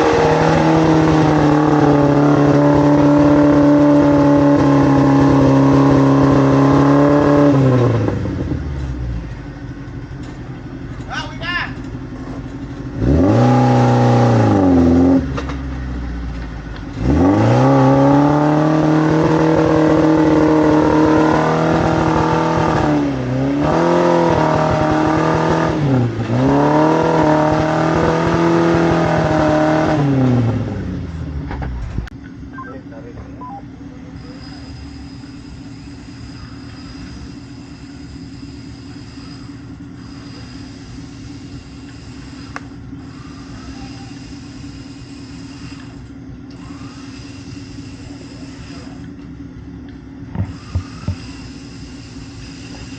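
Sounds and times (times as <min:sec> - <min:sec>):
car engine revving: 0:00.0 - 0:11.1, 0:11.8 - 0:52.9.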